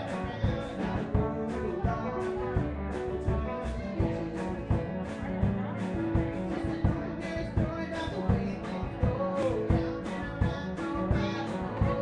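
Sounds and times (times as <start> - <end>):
acoustic guitar strumming: 0.0 - 12.0
steady drum beat: 0.0 - 12.0.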